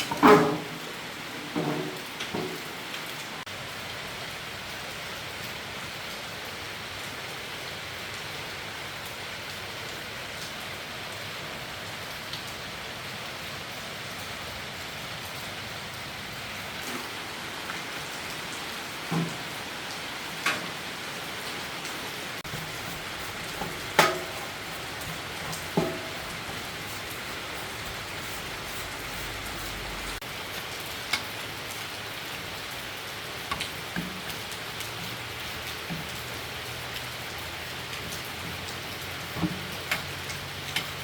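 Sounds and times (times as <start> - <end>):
heavy rain hissing: 0.0 - 41.0.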